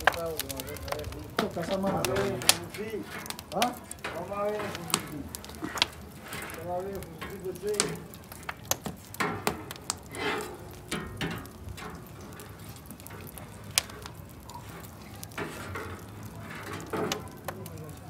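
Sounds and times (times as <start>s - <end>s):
sharp clicks and knocks: 0.0s - 17.8s.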